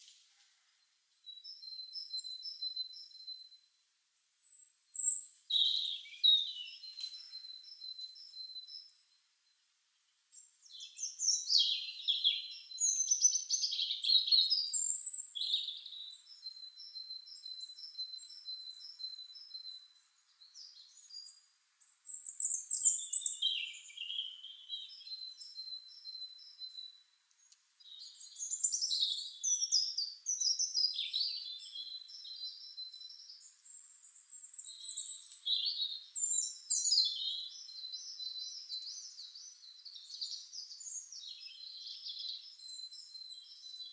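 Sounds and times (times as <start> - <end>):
songbirds singing: 0.0 - 43.9.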